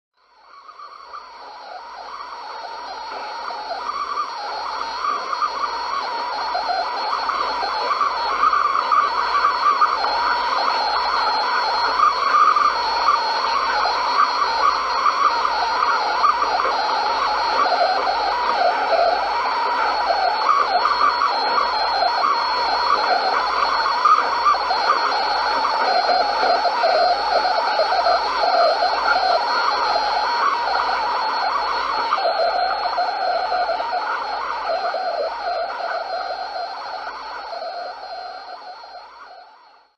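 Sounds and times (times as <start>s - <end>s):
faint high whistle: 0.3s - 39.9s
radio static hiss and crackle: 0.3s - 39.9s.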